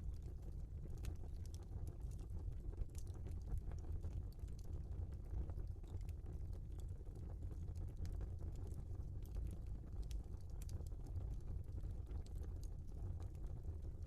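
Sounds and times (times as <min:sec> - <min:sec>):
low rumble of flames: 0:00.0 - 0:14.0.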